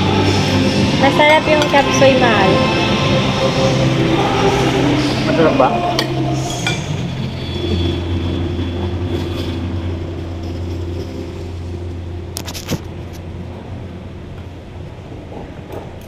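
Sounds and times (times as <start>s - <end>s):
restaurant dining room hum: 0.0s - 16.0s.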